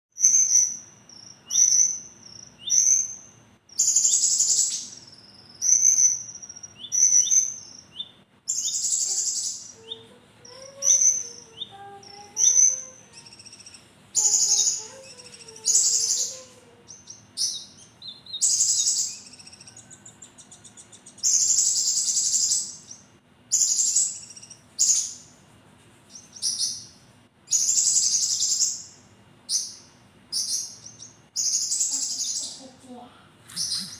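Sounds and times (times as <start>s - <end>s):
songbird singing: 0.2s - 25.4s, 26.1s - 33.9s.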